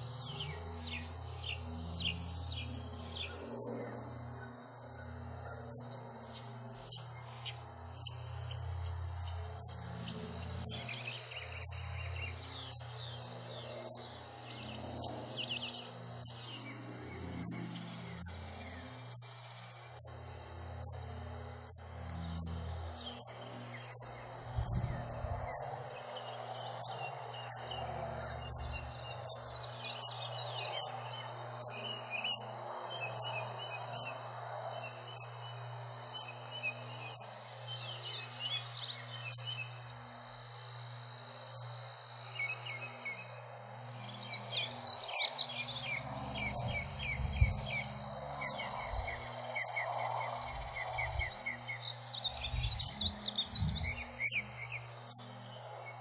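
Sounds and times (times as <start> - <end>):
insect high ticks: 0.0 - 56.0
songbirds chirping: 0.0 - 56.0.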